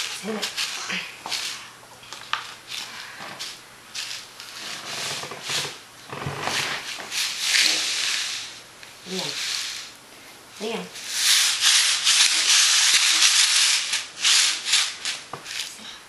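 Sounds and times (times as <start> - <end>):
rubbing and rustling: 0.0 - 10.0, 10.6 - 15.8.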